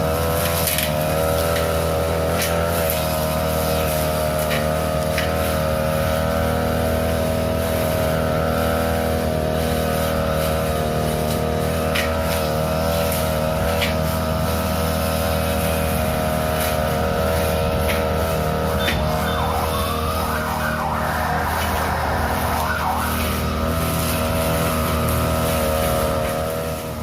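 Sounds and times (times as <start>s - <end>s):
grass cutter engine running: 0.0s - 27.0s.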